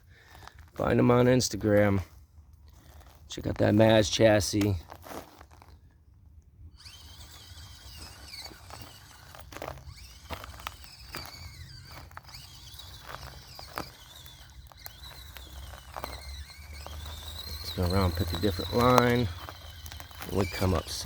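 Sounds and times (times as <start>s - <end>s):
toy car motor whining: 0.0s - 5.8s, 6.7s - 21.0s.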